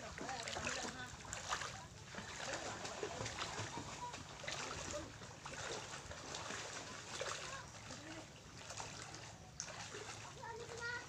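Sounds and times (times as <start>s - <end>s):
seawater splashing around legs: 0.0s - 11.0s.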